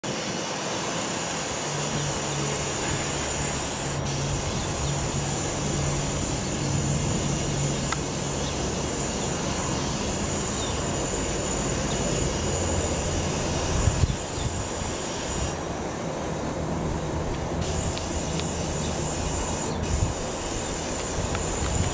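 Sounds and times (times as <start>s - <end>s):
helicopter rotor and engine noise: 0.0s - 21.9s
high turbine whine: 0.0s - 21.9s.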